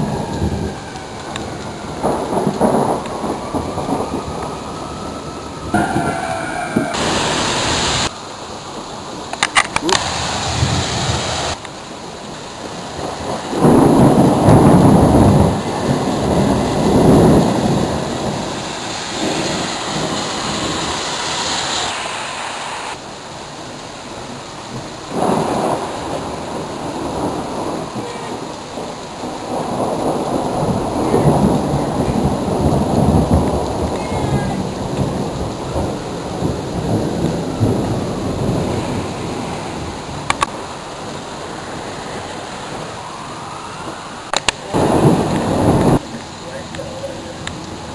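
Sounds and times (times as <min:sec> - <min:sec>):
thunder rumbling: 0:00.0 - 0:11.6, 0:12.6 - 0:22.2, 0:24.3 - 0:47.9
rain hiss: 0:00.0 - 0:47.9.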